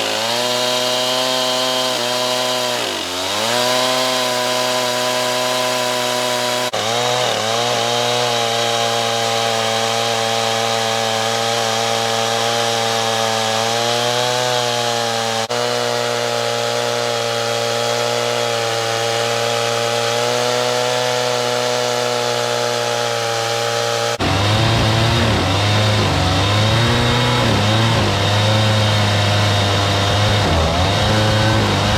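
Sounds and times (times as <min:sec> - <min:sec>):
chainsaw cutting through log: 0:00.0 - 0:31.9.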